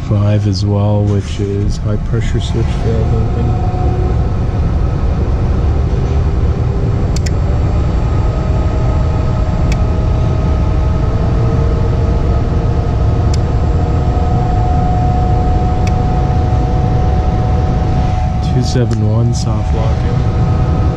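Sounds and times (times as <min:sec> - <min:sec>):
faint hums: 0:00.0 - 0:20.9
furnace running with low rumble: 0:00.0 - 0:20.9.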